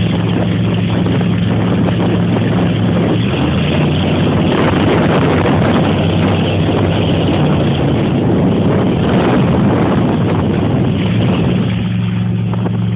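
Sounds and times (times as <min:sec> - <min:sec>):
motorboat engine running: 0:00.0 - 0:12.9
rush of wind and water: 0:00.0 - 0:12.9.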